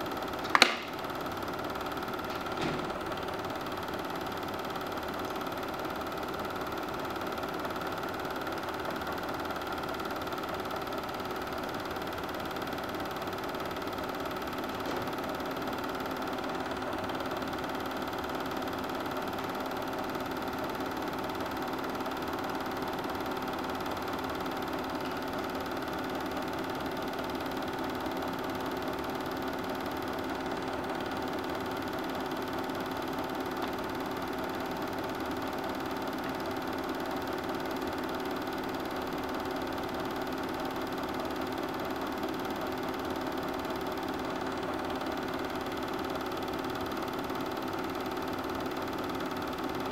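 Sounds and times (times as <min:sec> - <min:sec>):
film projector running: 0:00.0 - 0:49.9.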